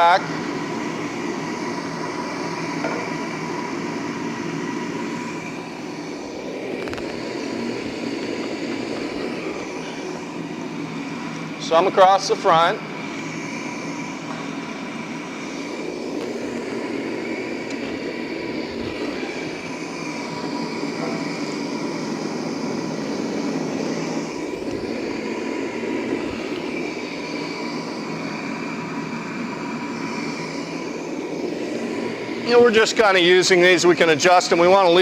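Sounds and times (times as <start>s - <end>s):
gas forge burner rushing: 0.0s - 35.0s.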